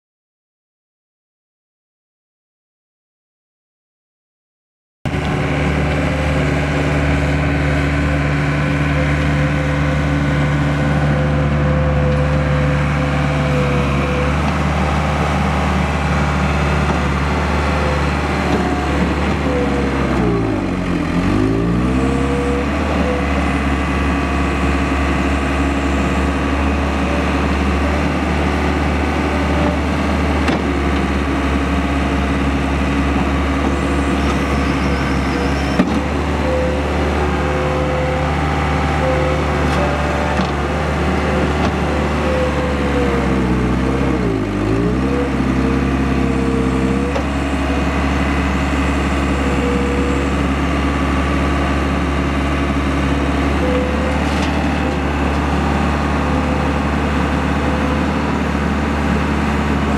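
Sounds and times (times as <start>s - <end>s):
diesel engine running: 5.1s - 59.9s.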